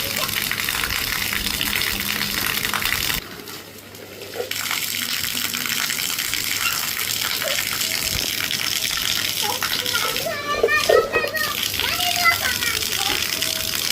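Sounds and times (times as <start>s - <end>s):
water gushing: 0.0s - 13.9s.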